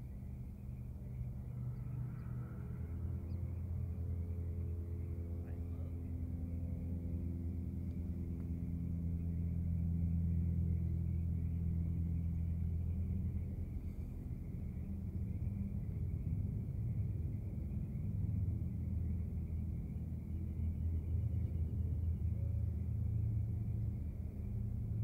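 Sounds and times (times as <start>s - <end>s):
car engine idling: 0.2s - 25.0s.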